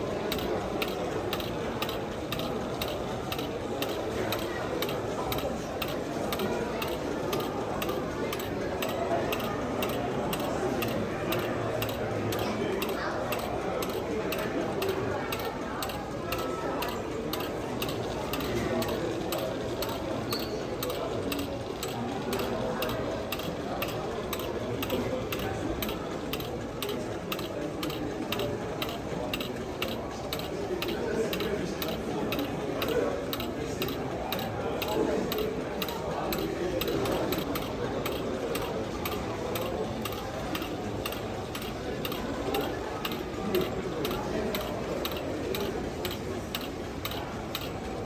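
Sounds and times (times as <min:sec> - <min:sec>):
crowd chatter: 0:00.0 - 0:48.0
steady mechanical clicking: 0:00.0 - 0:48.0.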